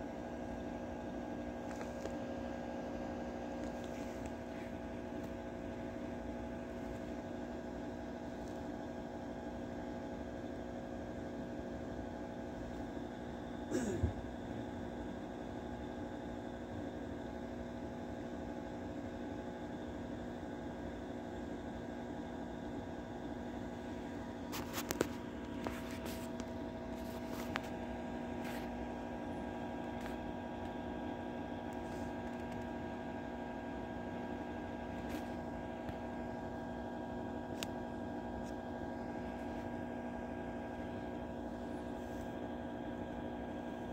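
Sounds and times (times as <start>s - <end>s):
mechanical hum: 0.0s - 43.9s.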